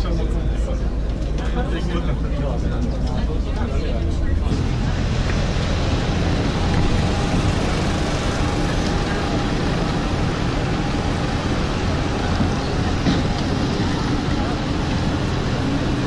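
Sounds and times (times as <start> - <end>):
vehicle rumble and hiss: 0.0 - 16.0.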